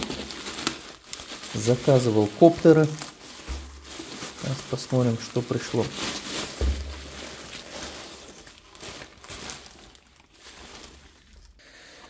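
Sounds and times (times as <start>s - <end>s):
plastic and bubble wrap crinkling: 0.0s - 12.0s.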